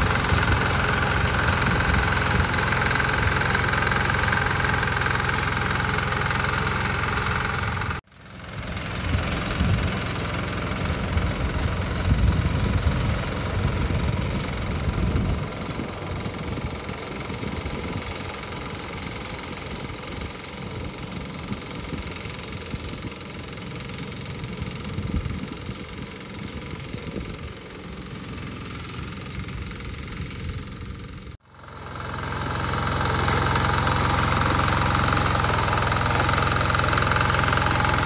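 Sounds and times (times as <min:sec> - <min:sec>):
small tiller engine running: 0:00.0 - 0:38.0.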